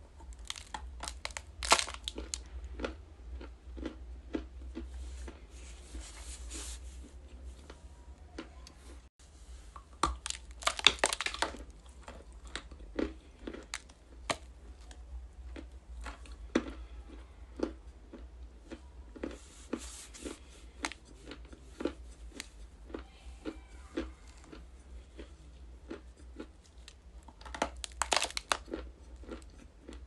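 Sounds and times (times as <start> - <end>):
ice crunching while chewed: 0.1 - 6.6, 9.8 - 30.0.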